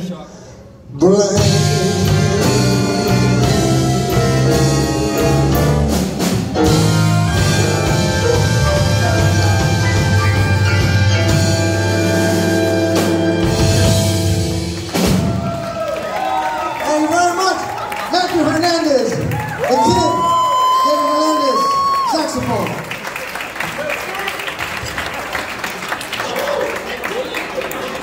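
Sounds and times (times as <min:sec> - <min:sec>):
big band playing: 0:00.0 - 0:26.2.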